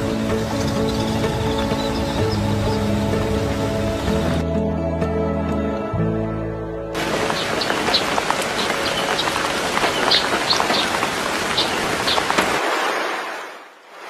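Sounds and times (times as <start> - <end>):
rain falling: 0.0 - 4.4, 7.0 - 14.0.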